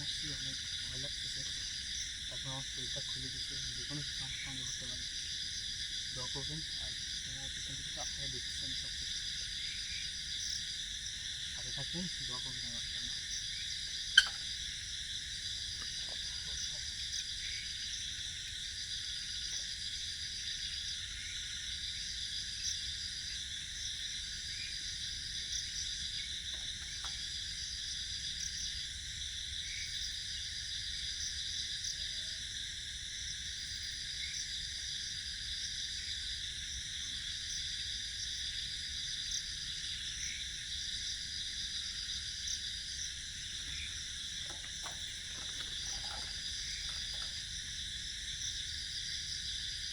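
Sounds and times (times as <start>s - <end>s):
crickets chirring: 0.0s - 49.9s
high insect trill: 0.0s - 49.9s.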